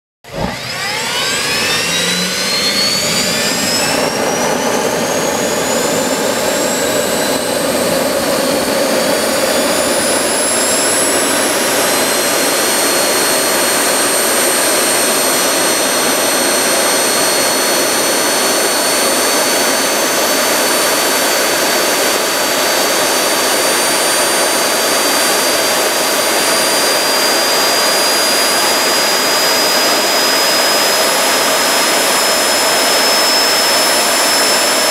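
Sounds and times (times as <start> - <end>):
high turbine whine: 0.2 - 34.9
turbojet roar: 0.2 - 34.9.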